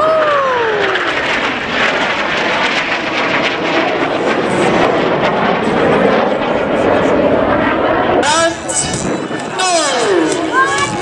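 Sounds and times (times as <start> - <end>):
jet engines passing: 0.0 - 11.0.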